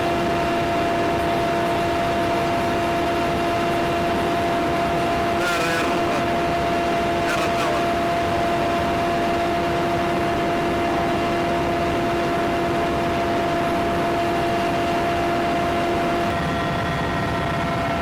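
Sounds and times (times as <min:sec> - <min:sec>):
constant hum: 0:00.0 - 0:16.4
aircraft engine drone in cabin: 0:00.0 - 0:18.0.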